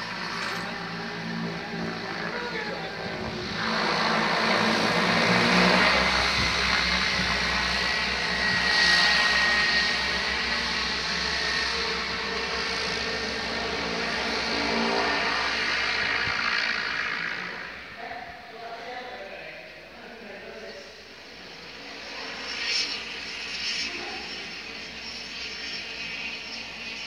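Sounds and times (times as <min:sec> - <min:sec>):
high turbine whine: 0:00.0 - 0:27.0
propeller drone: 0:00.0 - 0:27.0.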